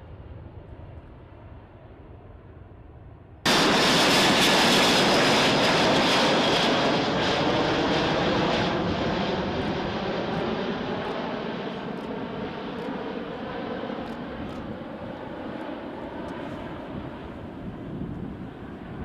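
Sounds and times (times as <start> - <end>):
aircraft engine rush and whine: 0.0 - 19.0.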